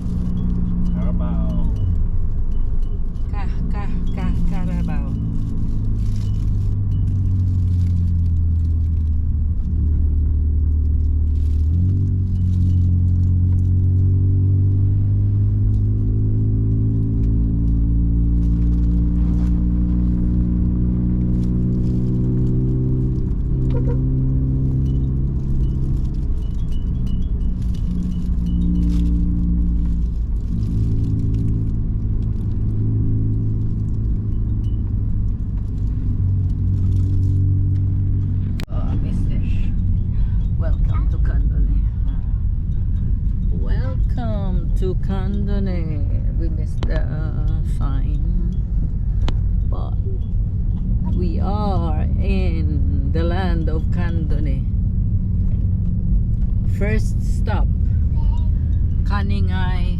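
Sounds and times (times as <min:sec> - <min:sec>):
car engine pulling uphill: 0:00.0 - 0:59.9.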